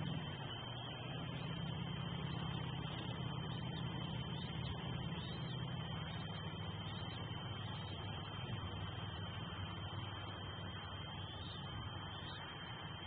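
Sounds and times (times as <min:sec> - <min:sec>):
faint high whine: 0:00.0 - 0:13.0
road traffic rumble: 0:00.0 - 0:13.0.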